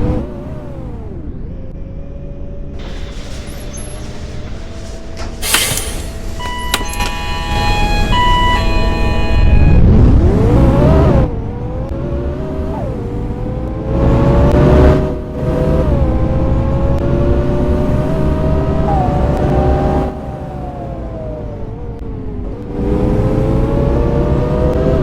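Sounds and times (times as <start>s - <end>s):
bus engine changing gears: 2.1s - 25.0s.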